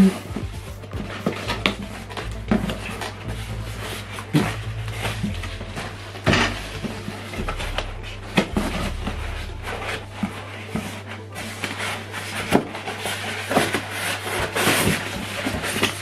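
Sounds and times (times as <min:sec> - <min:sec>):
low hum: 0:00.0 - 0:15.7
cardboard and styrofoam scraping: 0:00.0 - 0:16.0.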